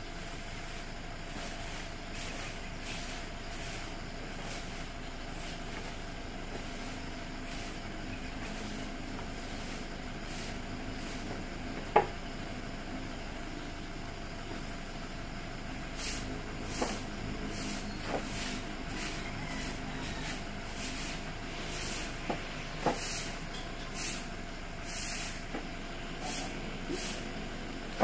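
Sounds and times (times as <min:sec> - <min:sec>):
broom sweeping leaves on concrete: 0:00.1 - 0:11.7, 0:15.8 - 0:28.0.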